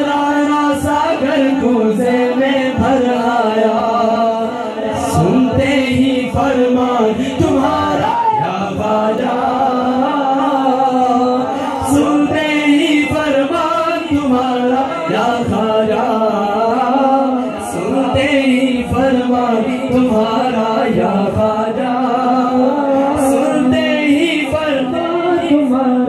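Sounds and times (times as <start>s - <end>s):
man singing unaccompanied: 0.0s - 26.0s.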